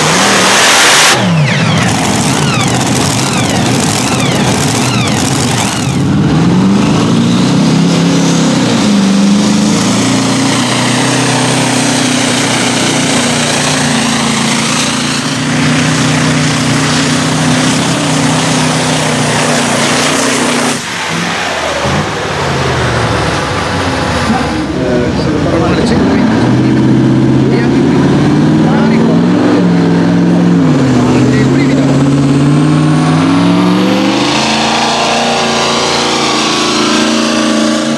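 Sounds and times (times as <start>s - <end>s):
truck diesel engine revving: 0.0s - 37.9s.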